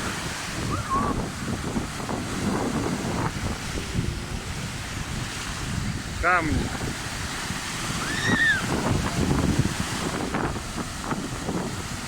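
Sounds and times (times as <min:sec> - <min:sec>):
sea surf washing on shore: 0:00.0 - 0:12.0
wind buffeting microphone: 0:00.0 - 0:12.0.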